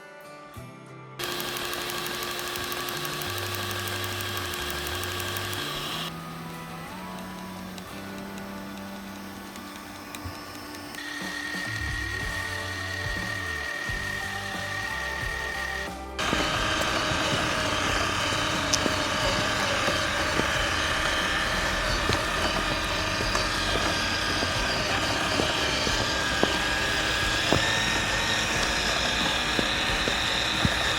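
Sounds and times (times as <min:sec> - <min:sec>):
electric motor whining: 0:01.2 - 0:30.9
scattered ticks: 0:01.2 - 0:30.9.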